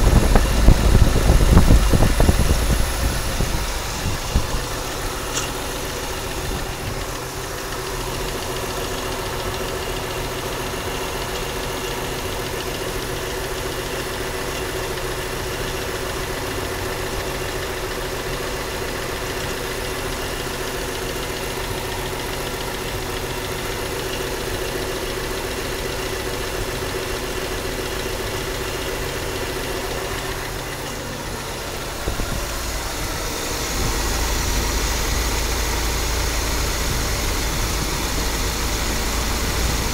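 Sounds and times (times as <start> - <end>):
engine idling with grinding: 0.0 - 39.9.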